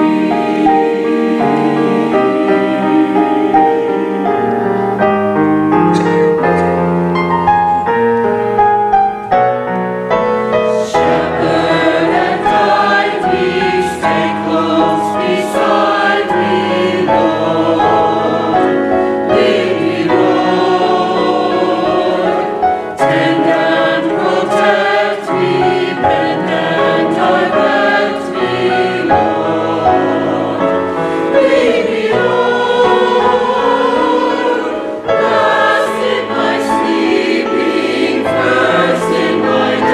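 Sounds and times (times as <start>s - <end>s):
choir singing gospel music: 0.0s - 8.0s, 10.4s - 39.9s
musical accompaniment: 0.0s - 39.9s.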